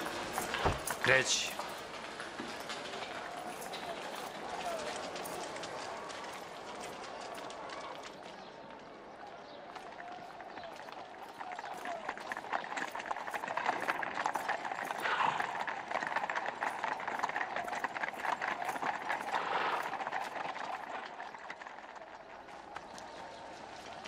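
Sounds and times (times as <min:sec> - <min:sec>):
footsteps on hard street: 0:00.0 - 0:24.0.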